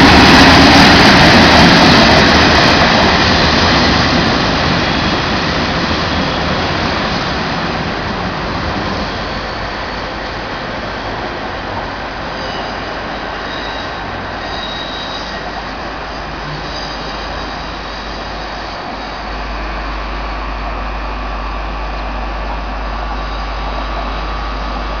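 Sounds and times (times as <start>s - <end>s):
train wheels squealing on rails: 0.0s - 20.4s
train low rumble: 0.0s - 25.0s.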